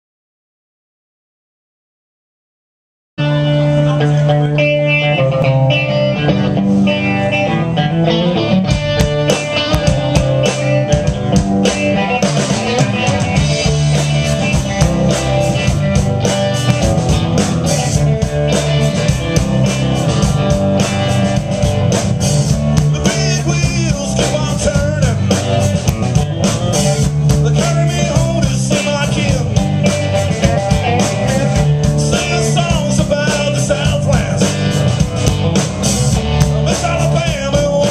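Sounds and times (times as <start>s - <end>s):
driving drum kit: 3.2s - 37.9s
electric guitars: 3.2s - 37.9s
heavy bass line: 3.2s - 37.9s.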